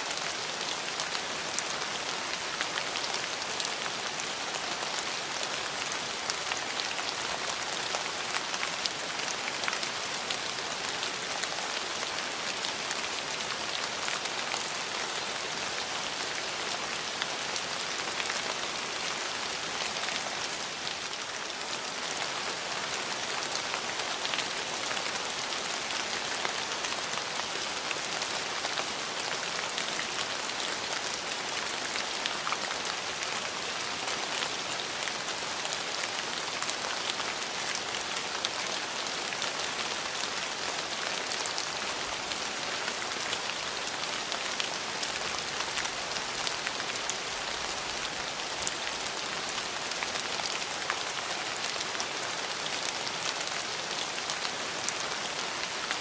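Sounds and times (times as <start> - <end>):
rain ticking on a hard surface: 0.0 - 56.0.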